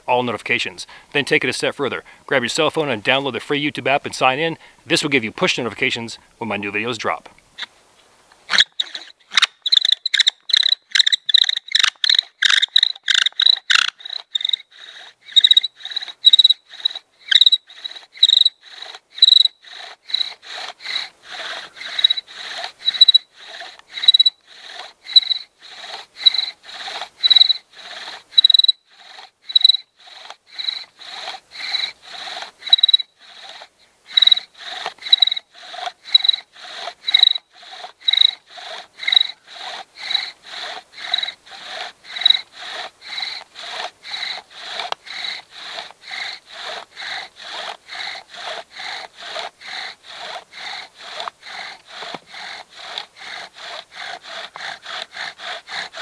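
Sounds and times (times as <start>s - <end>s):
bow drill spindle squeaking: 8.4s - 56.0s.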